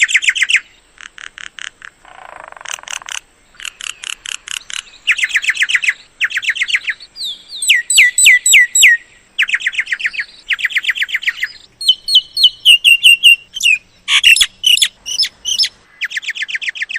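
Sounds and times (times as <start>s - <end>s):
bird calling repeated notes: 0.0s - 16.9s.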